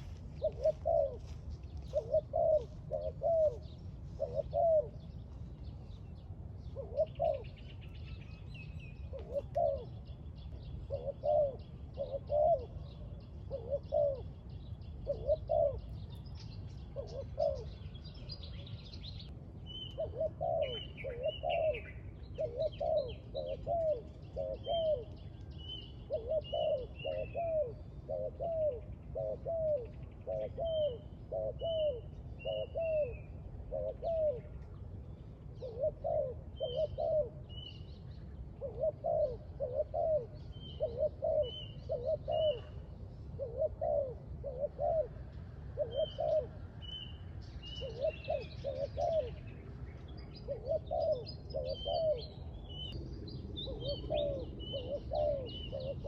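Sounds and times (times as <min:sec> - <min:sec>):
doves cooing: 0:00.0 - 0:06.0, 0:06.6 - 0:19.0, 0:19.8 - 0:56.0
small birds chirping and trilling: 0:00.0 - 0:43.1, 0:44.7 - 0:56.0
low steady background rumble: 0:00.0 - 0:56.0.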